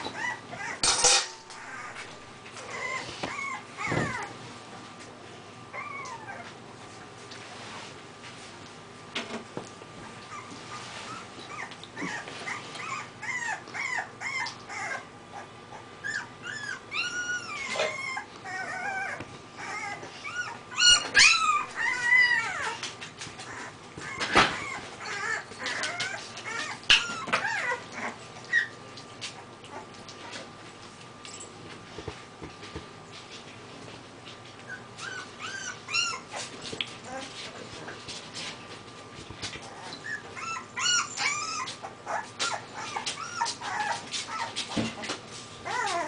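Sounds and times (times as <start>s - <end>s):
puppies whimpering and squeaking: 0.0s - 4.5s, 5.6s - 6.6s, 10.0s - 30.5s, 34.3s - 46.0s.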